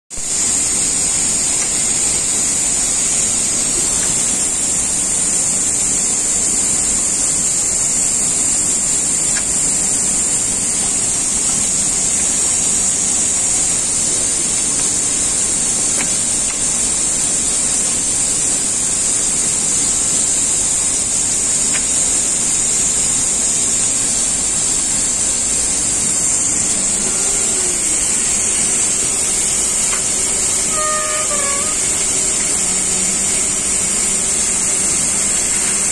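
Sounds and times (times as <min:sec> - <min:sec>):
machine hiss: 0:00.1 - 0:35.9.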